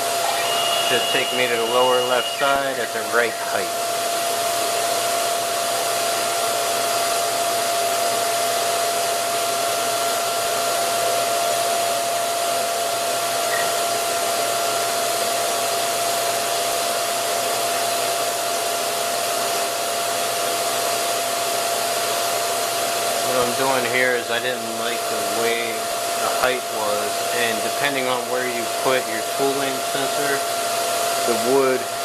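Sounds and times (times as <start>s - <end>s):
fan whooshing with whine: 0.0s - 17.7s, 19.9s - 32.0s.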